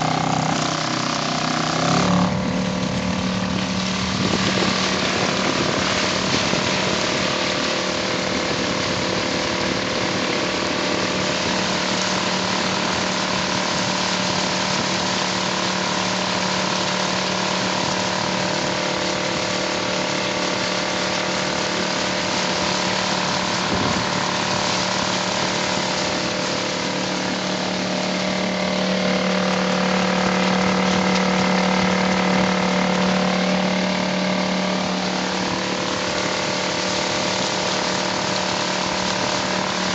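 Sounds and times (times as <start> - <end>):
outboard motor running: 0.0 - 39.9
water rushing past hull: 0.0 - 39.9.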